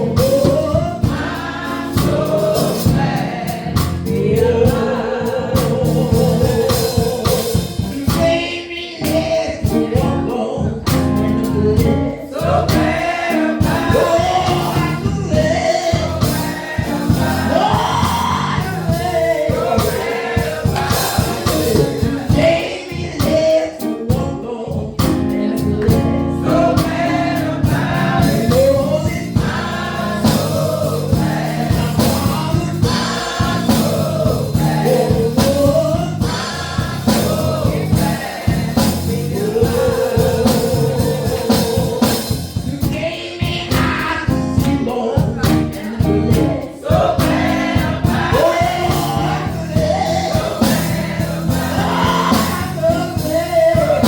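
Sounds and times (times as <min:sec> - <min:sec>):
driving instrumental accompaniment: 0:00.0 - 0:08.5, 0:09.1 - 0:24.3, 0:25.0 - 0:54.0
gospel choir singing: 0:00.0 - 0:54.0.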